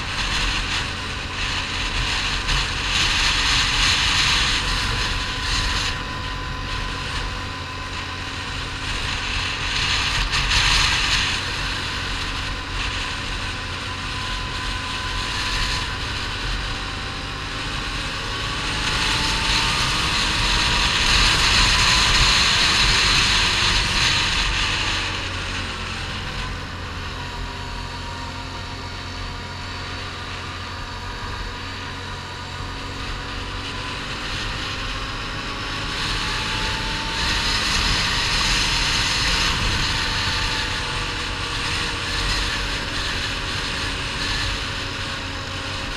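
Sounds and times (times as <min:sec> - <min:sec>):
atv engine running: 0:00.0 - 0:45.9
wind on microphone: 0:00.0 - 0:45.9.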